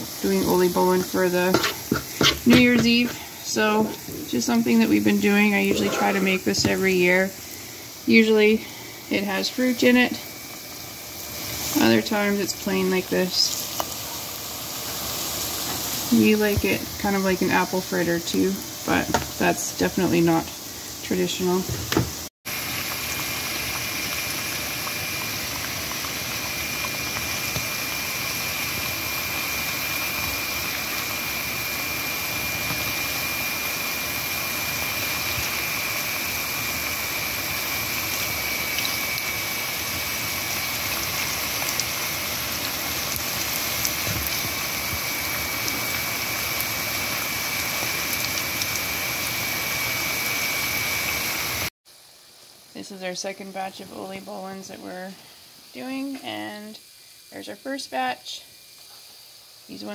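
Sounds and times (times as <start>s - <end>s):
dough sizzling in hot oil: 0.0s - 59.9s.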